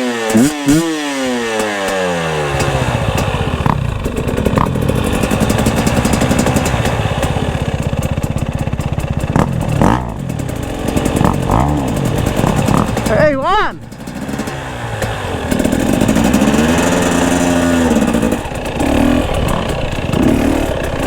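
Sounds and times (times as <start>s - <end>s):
dirt bike engine puttering: 0.0s - 21.0s.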